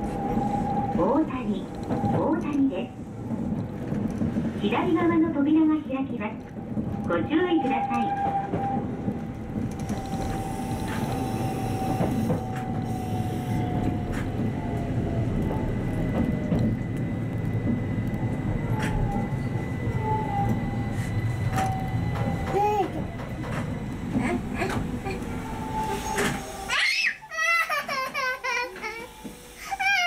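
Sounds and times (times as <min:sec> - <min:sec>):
train rumbling on rails: 0:00.0 - 0:30.0.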